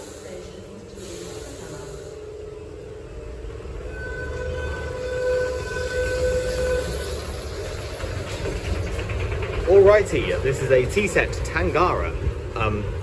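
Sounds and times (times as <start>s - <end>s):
electric train low rumble: 0.0s - 13.0s.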